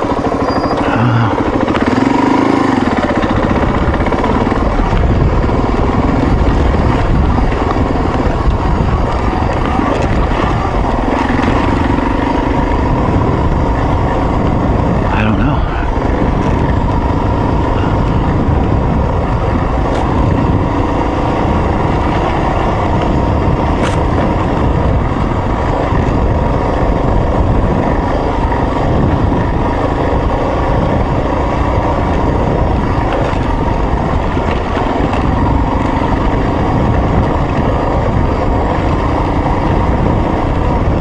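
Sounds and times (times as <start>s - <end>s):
off-road motorcycle engine: 0.0s - 41.0s
wind noise on microphone: 0.0s - 41.0s.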